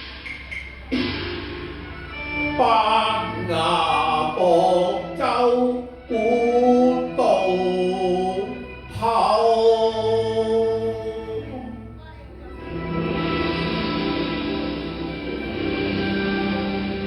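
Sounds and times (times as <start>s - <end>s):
song with held melody notes: 0.0s - 17.0s.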